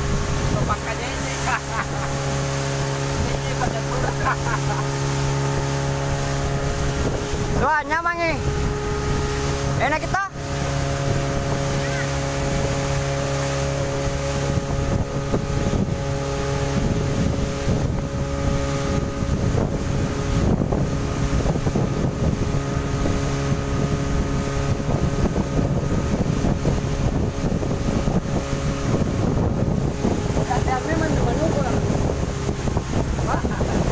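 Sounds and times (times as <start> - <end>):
outboard motor drone: 0.0 - 33.9
wind buffeting microphone: 0.0 - 33.9.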